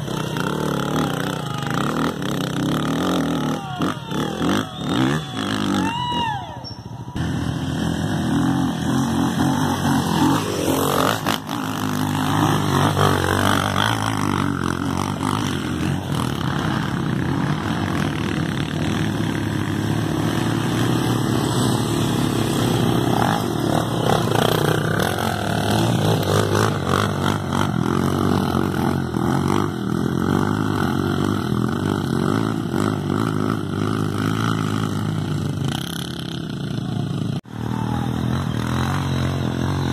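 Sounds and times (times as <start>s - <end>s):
dirt bike engines running: 0.0s - 39.9s.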